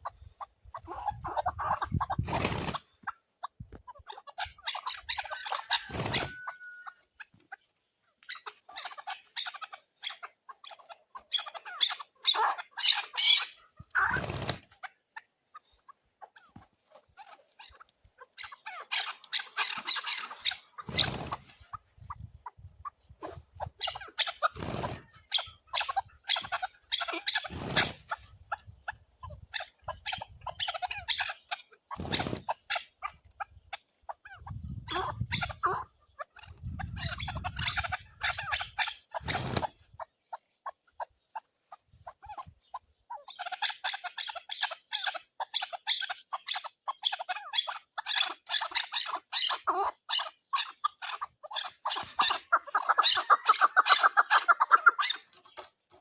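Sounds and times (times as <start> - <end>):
partridges calling rapidly: 0.0 - 56.0.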